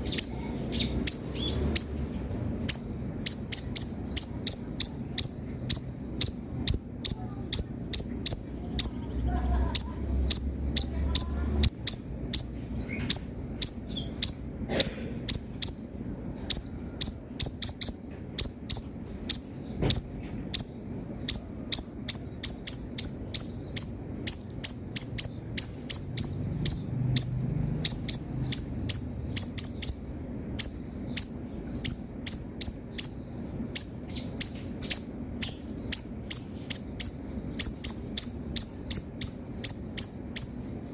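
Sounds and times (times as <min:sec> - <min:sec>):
bird high sharp chirps: 0:00.0 - 0:40.9.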